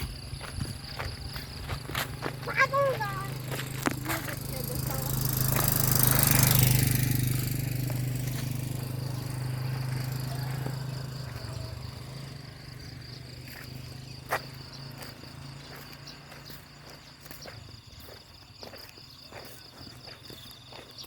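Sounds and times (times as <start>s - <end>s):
high insect trill: 0.0s - 21.0s
small engine hum: 0.0s - 21.0s.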